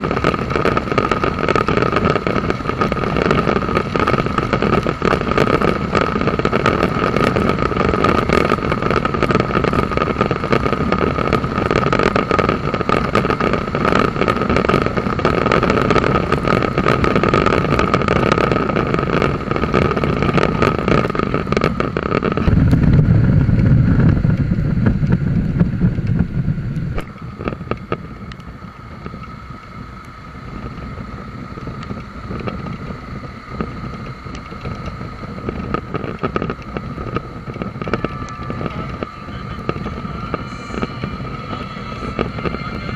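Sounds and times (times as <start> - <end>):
high whine: 0.0 - 42.9
motorcycle engine: 0.0 - 42.9
wind rush over microphone: 0.0 - 42.9.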